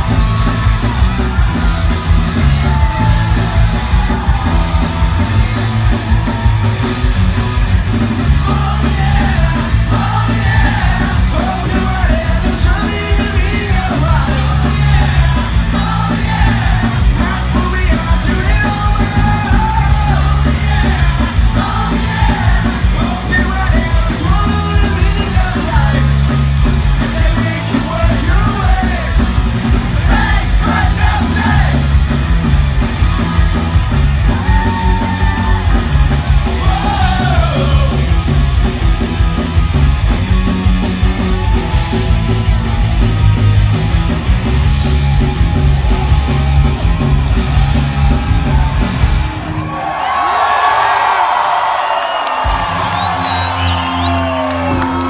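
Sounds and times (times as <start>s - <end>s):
live punk rock band: 0.0s - 55.0s.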